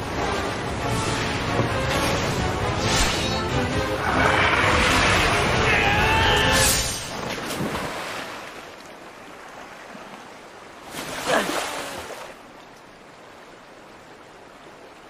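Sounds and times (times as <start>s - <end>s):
water splashing and surging: 0.0s - 15.0s
waves washing: 0.0s - 15.0s.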